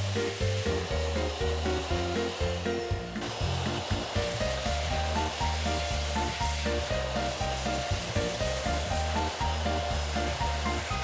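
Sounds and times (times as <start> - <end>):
background music with bass line: 0.0 - 11.0
vacuum cleaner hiss: 0.0 - 11.0.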